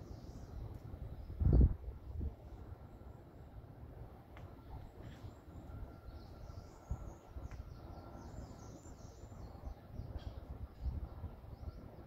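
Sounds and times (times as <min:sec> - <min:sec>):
small birds chirping: 0:00.0 - 0:03.6, 0:04.4 - 0:12.0.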